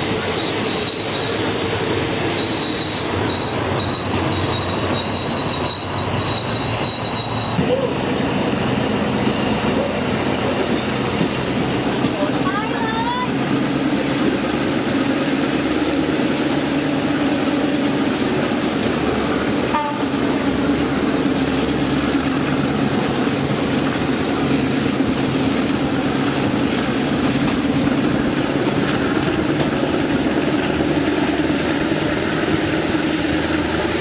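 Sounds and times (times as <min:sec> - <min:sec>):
passenger train running: 0:00.0 - 0:34.0.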